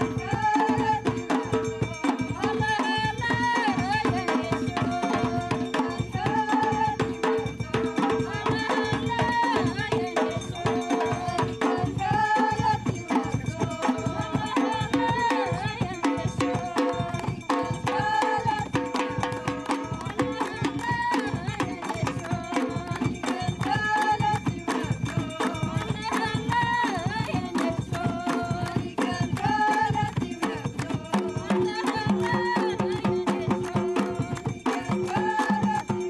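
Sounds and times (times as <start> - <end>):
steady drum beat: 0.0 - 36.0.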